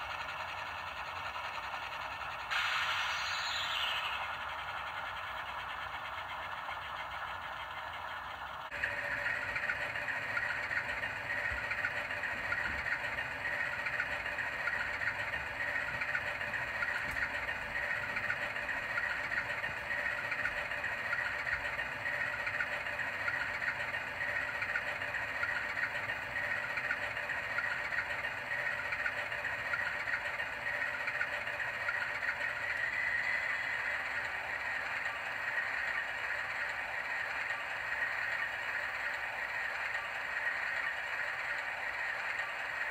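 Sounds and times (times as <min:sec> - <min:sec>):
model locomotive engine idling: 0:00.0 - 0:42.9
steady high hum: 0:00.0 - 0:42.9.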